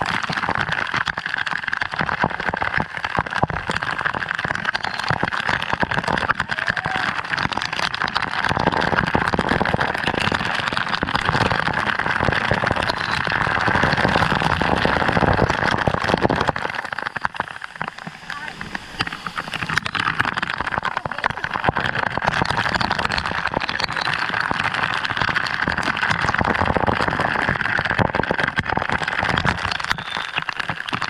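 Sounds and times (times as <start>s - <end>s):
waterfall rushing and splashing: 3.6s - 31.0s.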